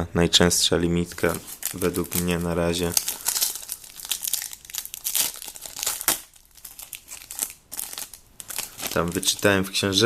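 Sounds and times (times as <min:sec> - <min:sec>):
card packaging crinkling: 0:01.2 - 0:09.8.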